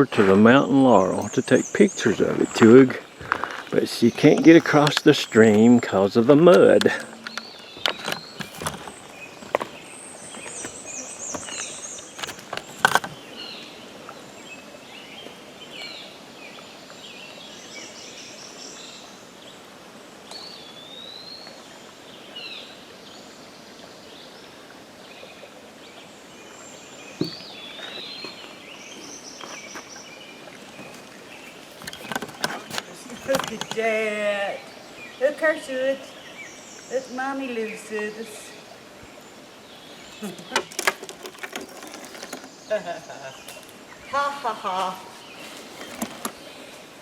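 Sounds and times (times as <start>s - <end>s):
outdoor background hiss: 0.0s - 47.0s
songbirds singing: 0.0s - 47.0s.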